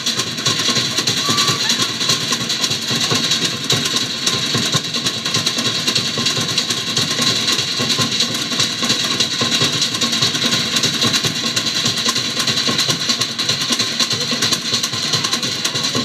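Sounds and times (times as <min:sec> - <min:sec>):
fast drumming: 0:00.0 - 0:16.0.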